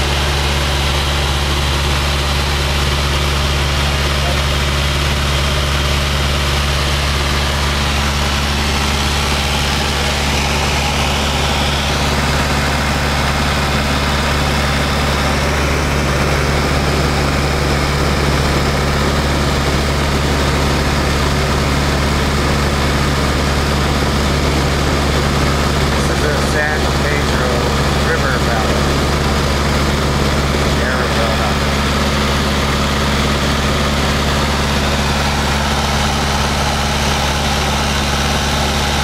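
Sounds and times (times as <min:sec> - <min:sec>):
aircraft engine droning in cabin: 0:00.0 - 0:39.0.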